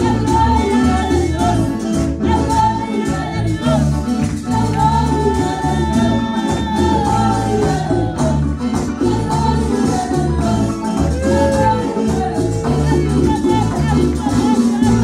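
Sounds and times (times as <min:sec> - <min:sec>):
live band playing latin hymn: 0:00.0 - 0:15.0
person singing: 0:00.0 - 0:15.0
shaker percussion: 0:00.0 - 0:15.0.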